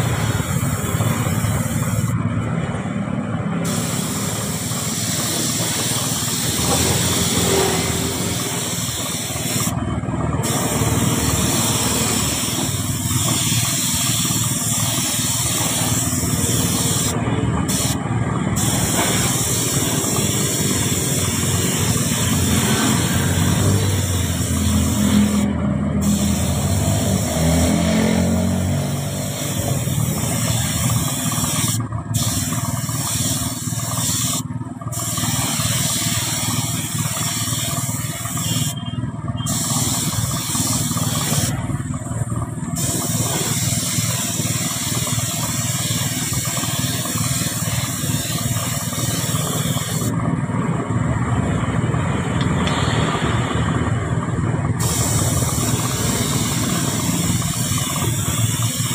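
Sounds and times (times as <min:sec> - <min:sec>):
air spray gun hissing: 0:00.0 - 0:02.4, 0:03.2 - 0:50.2, 0:54.2 - 0:58.9.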